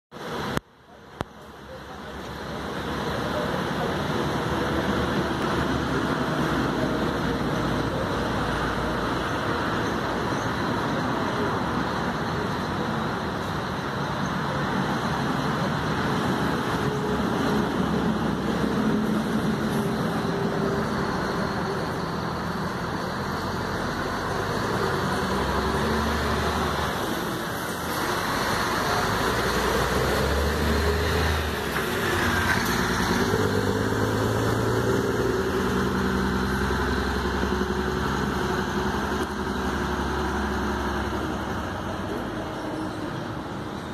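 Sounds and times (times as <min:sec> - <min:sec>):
coach diesel engine accelerating: 0:01.2 - 0:43.9.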